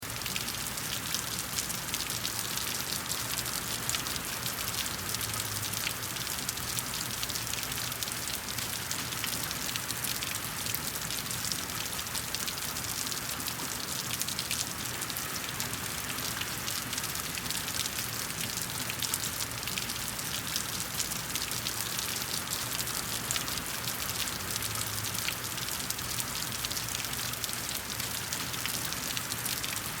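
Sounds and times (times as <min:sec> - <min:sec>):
rain pattering on a surface: 0:00.0 - 0:30.0.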